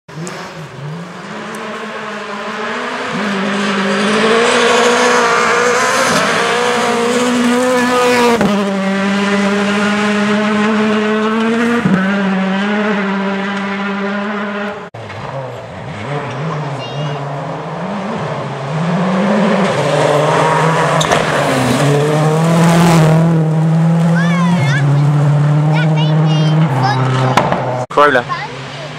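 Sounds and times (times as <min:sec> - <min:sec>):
rally car engine revving: 0:00.1 - 0:28.9.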